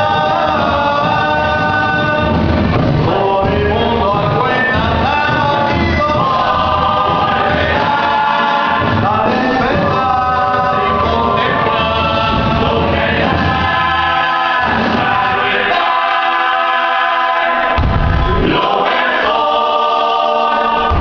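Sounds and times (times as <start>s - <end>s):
voices singing in harmony: 0.0s - 21.0s.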